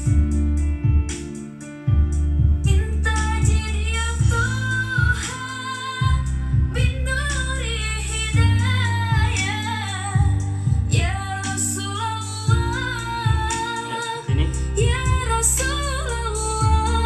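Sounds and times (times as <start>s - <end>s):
strong bass notes: 0.0s - 1.2s, 1.9s - 5.3s, 6.0s - 13.6s, 14.3s - 17.0s
woman singing: 2.6s - 17.0s.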